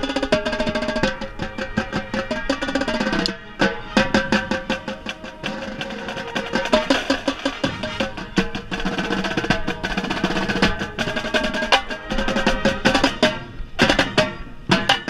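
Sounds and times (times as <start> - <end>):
sustained brass chords: 0.0 - 14.8
tenor drum strokes and rim clicks: 0.0 - 15.0.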